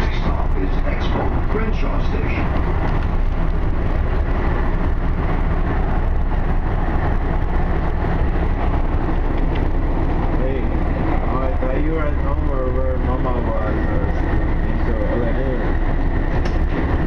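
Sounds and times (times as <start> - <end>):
train car rumbling: 0.0 - 17.0.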